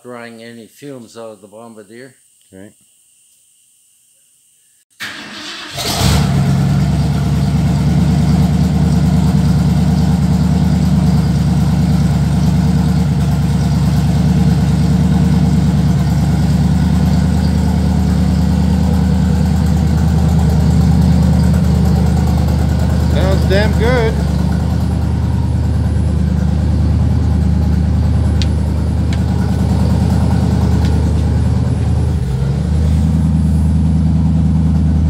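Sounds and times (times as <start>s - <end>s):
snow vehicle engine idling: 5.7s - 35.0s.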